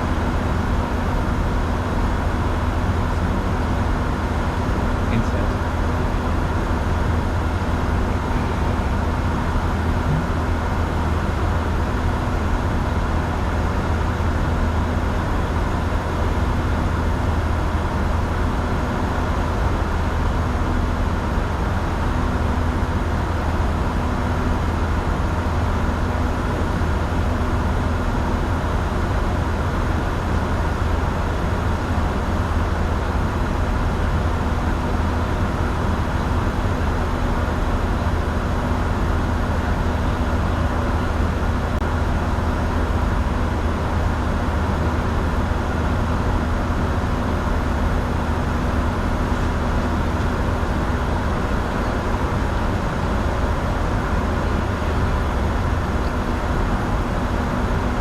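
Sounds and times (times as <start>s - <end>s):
jet engine drone: 0.0s - 58.0s.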